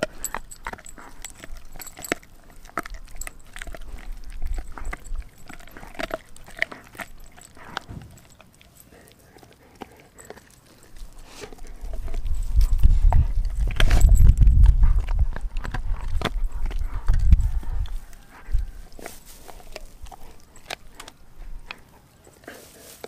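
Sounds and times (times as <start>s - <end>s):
dog crunching on bone: 0.0s - 23.0s.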